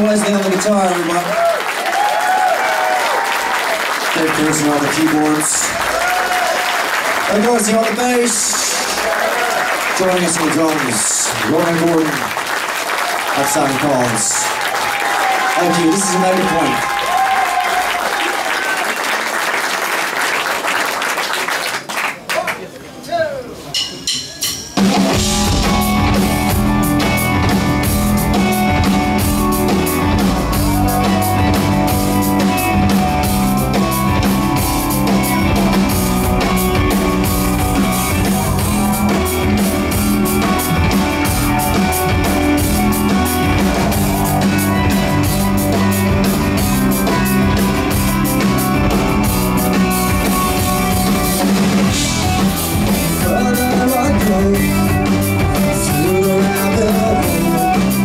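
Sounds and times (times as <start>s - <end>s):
rock band playing live: 3.8s - 17.4s, 23.7s - 58.0s.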